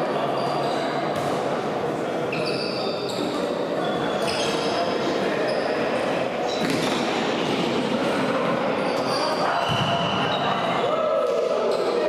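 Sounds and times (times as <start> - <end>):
reverberant sports hall noise: 0.0 - 12.0.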